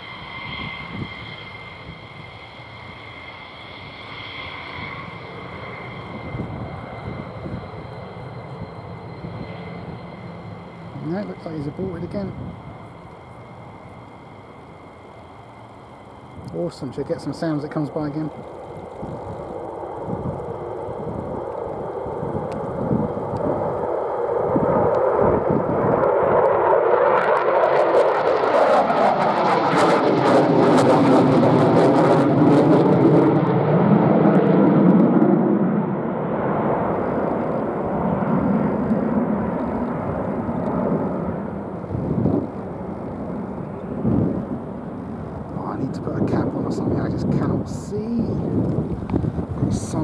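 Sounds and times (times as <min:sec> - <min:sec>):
jet passing by: 0:00.0 - 0:50.0.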